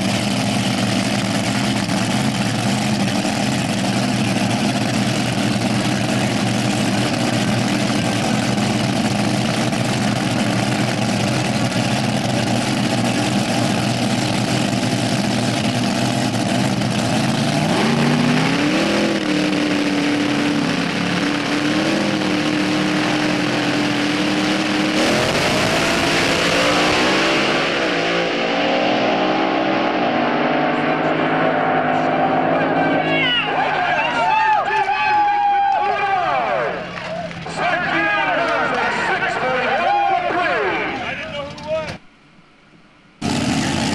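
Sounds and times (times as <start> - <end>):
dragsters accelerating away: 0.0 - 42.0, 43.2 - 43.9
dragster engines revving: 0.0 - 42.1, 43.2 - 43.9.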